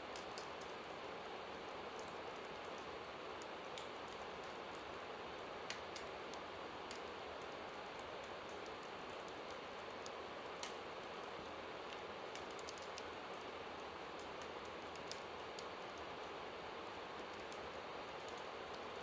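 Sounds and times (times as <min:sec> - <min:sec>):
fire crackling: 0:00.1 - 0:19.0.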